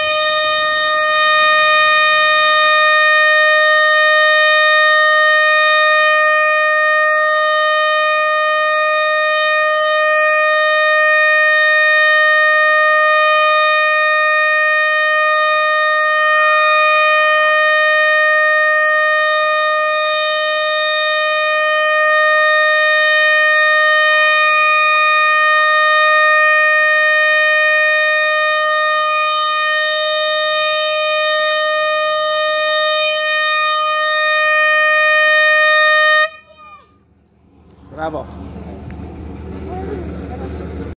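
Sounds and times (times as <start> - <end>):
siren steady tone: 0.0 - 36.9.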